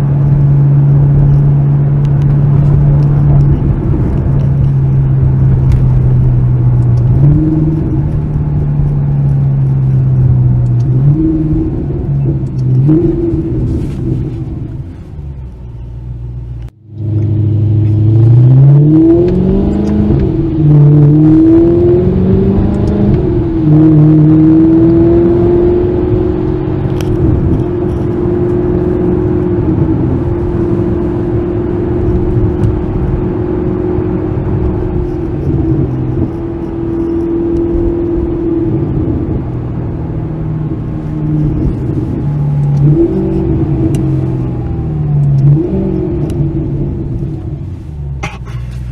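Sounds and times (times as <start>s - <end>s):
sports car engine revving: 0.0s - 48.9s.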